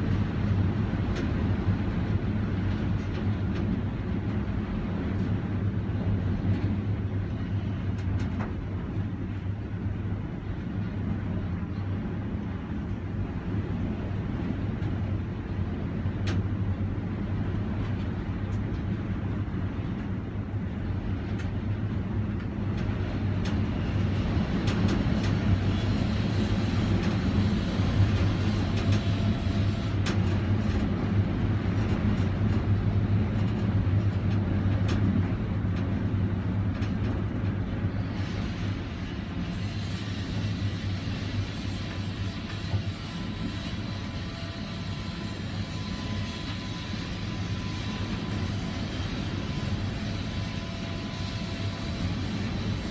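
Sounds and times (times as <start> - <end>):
low machine hum: 0.0 - 52.9.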